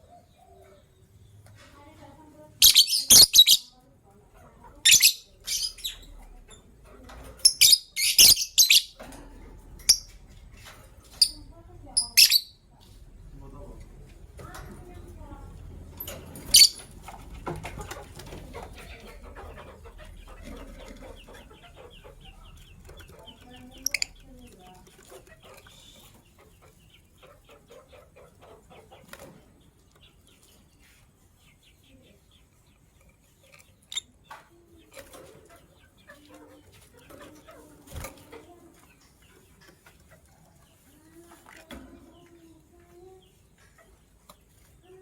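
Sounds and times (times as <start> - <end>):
lovebirds chattering: 0.0 - 45.0.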